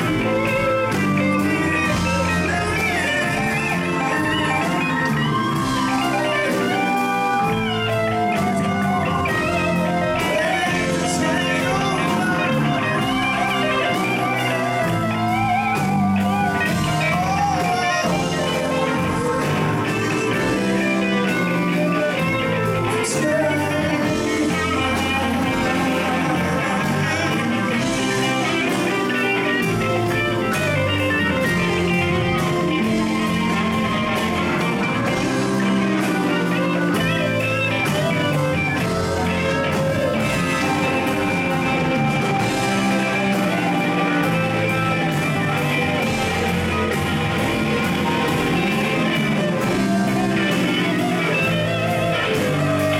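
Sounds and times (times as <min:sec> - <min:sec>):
drums: 0:00.0 - 0:52.9
electric guitars: 0:00.0 - 0:52.9
organ: 0:00.0 - 0:52.9.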